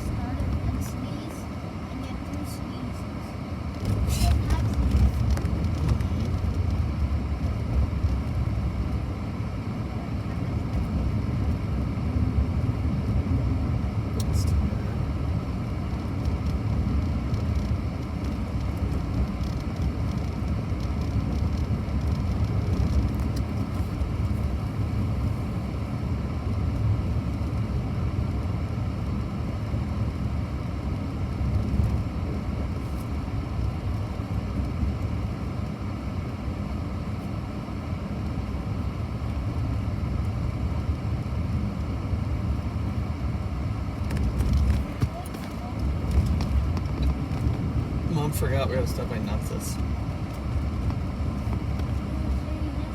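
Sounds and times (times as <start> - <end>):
road vehicle rumble: 0.0 - 52.9.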